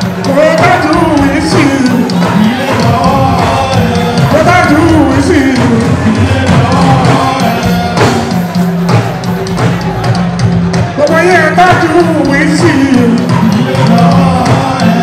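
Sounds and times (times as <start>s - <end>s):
man singing into microphone: 0.0s - 8.7s, 11.0s - 15.0s
drums: 0.0s - 15.0s
repeated bass notes: 0.0s - 15.0s.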